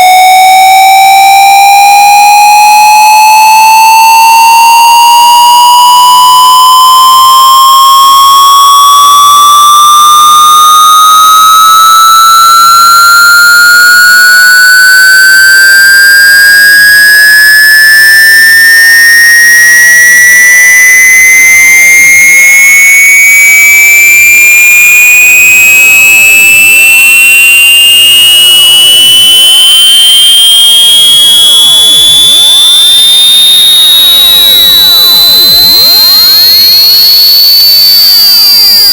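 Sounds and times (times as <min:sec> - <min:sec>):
rising electronic test tone: 0:00.0 - 0:38.9.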